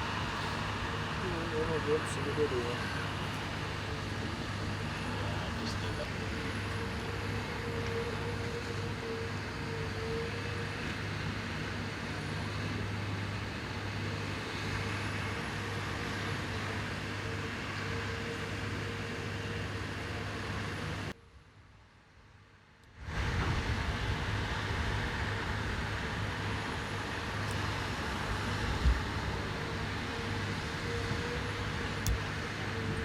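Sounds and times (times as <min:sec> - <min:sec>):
engine droning with whine: 0:00.0 - 0:33.0.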